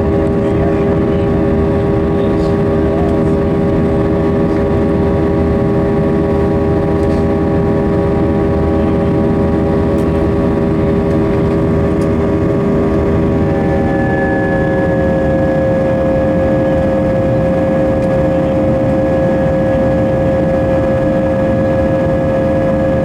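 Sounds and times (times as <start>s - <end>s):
jet engines roaring in cabin: 0.0s - 23.0s
whining engine tones: 1.0s - 22.6s.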